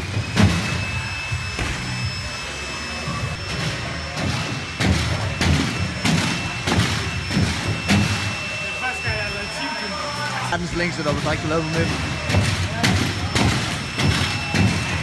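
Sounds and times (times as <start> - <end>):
low hum of hall: 0.0 - 15.0.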